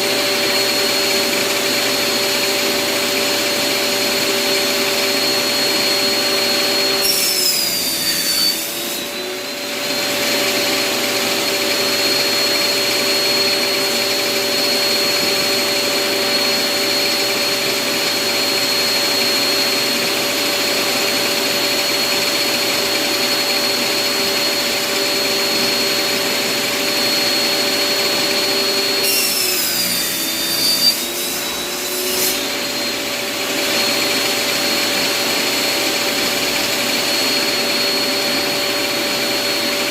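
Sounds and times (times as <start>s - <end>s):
table saw cutting wood: 0.0s - 39.9s.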